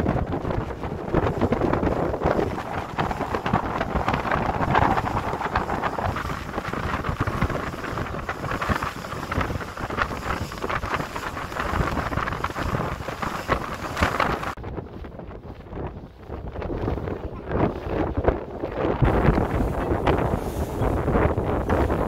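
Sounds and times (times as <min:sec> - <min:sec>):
choppy sea: 0:00.0 - 0:22.0
wind buffeting microphone: 0:00.0 - 0:22.0.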